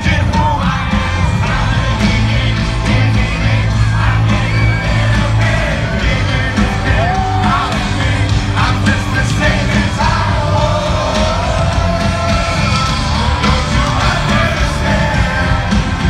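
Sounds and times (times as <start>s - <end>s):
man singing amplified vocals: 0.0s - 16.0s
rock band playing: 0.0s - 16.0s.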